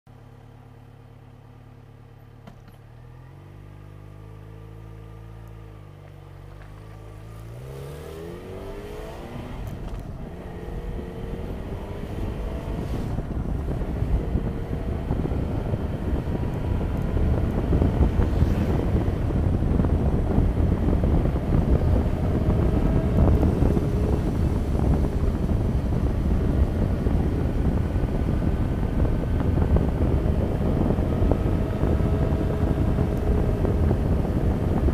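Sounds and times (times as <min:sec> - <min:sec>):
motorcycle engine: 0:05.4 - 0:34.9
wind rushing on microphone: 0:06.6 - 0:34.9.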